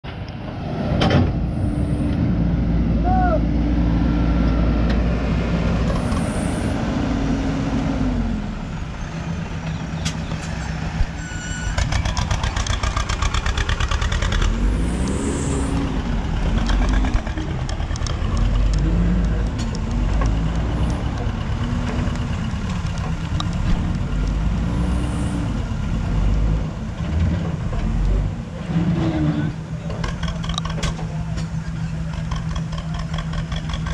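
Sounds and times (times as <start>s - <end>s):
diesel engine running under load: 0.2s - 33.9s.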